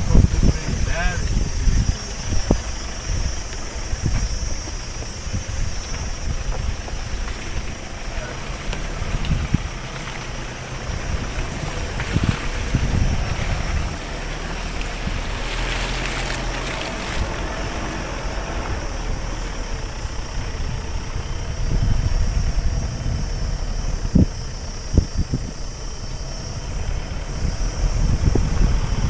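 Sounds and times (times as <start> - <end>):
vehicle rumble: 0.0 - 29.0
wind noise: 0.0 - 29.0.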